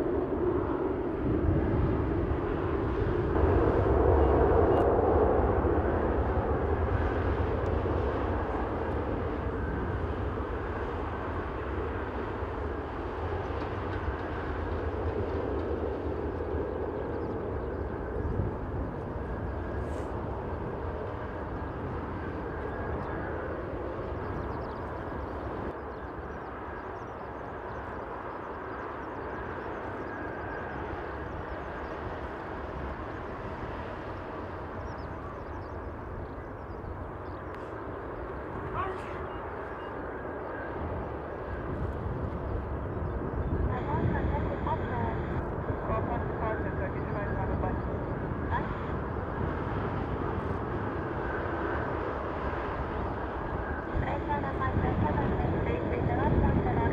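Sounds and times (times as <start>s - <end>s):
jet airliner taxiing rumble: 0.0s - 56.9s.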